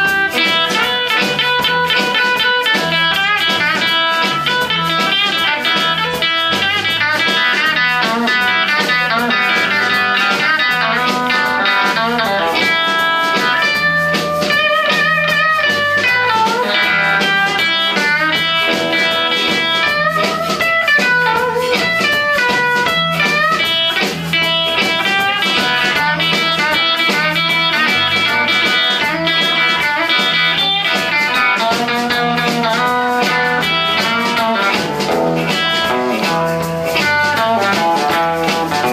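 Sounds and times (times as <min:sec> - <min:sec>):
amplified harmonica: 0:00.0 - 0:38.9
electric blues band playing: 0:00.0 - 0:38.9.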